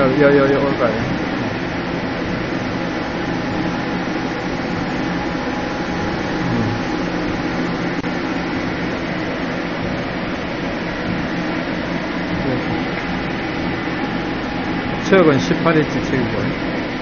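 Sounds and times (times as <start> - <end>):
lathe spindle humming: 0.0 - 17.0.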